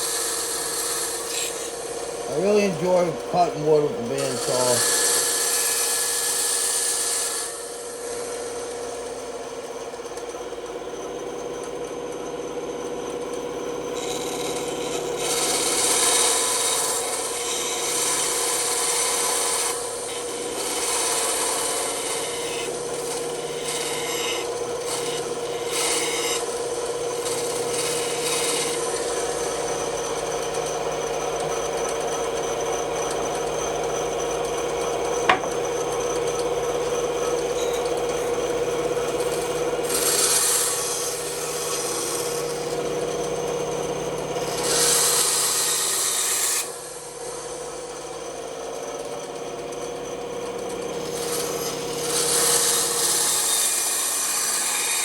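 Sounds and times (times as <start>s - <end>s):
saw blade cutting wood: 0.0s - 10.6s, 13.9s - 49.9s, 50.5s - 55.0s
bandsaw motor hum: 0.0s - 55.0s.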